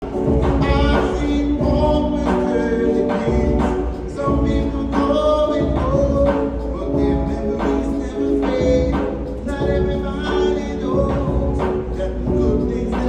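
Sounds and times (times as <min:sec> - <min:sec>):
music with pulsing bass: 0:00.0 - 0:13.0
person singing: 0:00.0 - 0:13.0.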